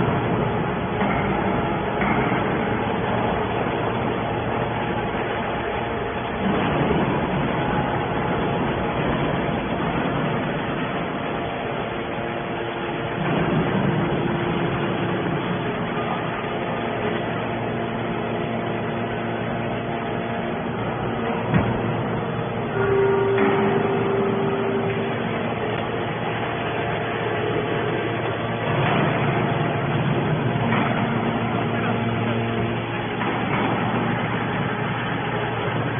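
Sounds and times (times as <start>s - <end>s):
faint steady hums: 0.0s - 35.9s
hydraulic press machine noise: 0.0s - 35.9s.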